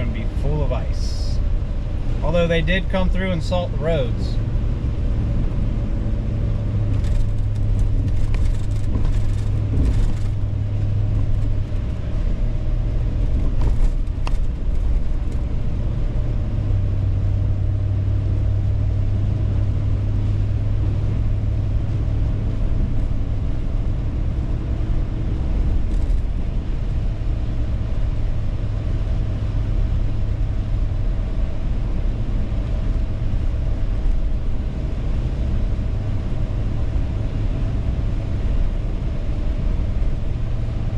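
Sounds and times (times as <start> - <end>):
car engine and tyre hum: 0.0 - 40.9.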